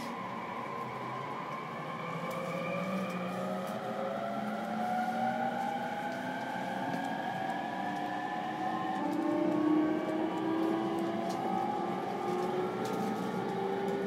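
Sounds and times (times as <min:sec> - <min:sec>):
electric train motors whining: 0:01.4 - 0:14.0.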